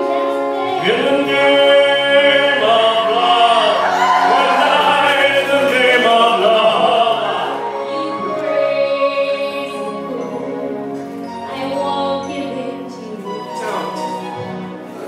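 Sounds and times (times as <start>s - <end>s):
person singing: 0.0s - 12.9s
backing track music: 0.0s - 15.0s.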